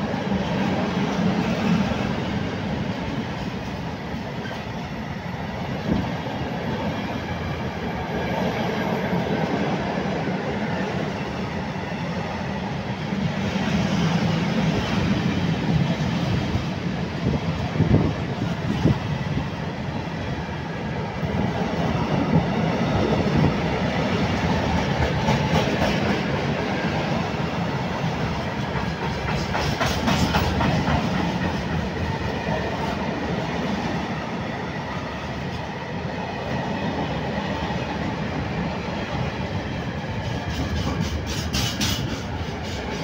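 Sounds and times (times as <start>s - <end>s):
steel wheels rumbling on rail: 0.0s - 43.0s.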